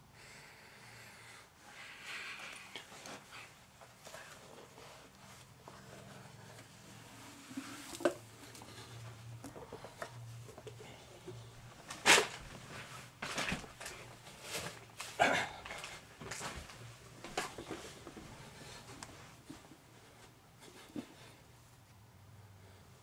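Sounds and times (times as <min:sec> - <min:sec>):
knocks and rustles of movement: 0:02.4 - 0:21.9.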